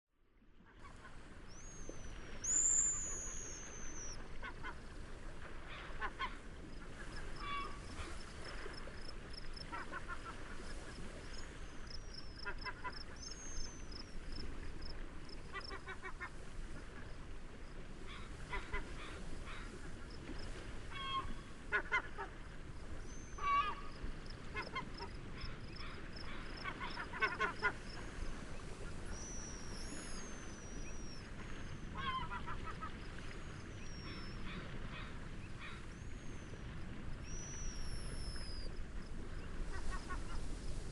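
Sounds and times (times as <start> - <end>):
wind: 0.0 - 40.9
waves: 0.1 - 40.9.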